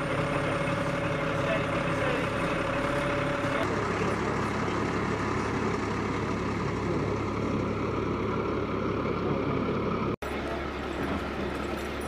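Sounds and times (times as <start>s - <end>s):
heavy vehicle engine humming: 0.0s - 12.0s.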